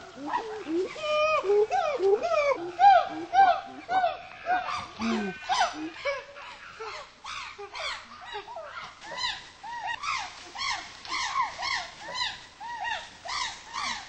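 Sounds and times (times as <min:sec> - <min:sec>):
chimpanzees pant hooting: 0:00.1 - 0:14.0.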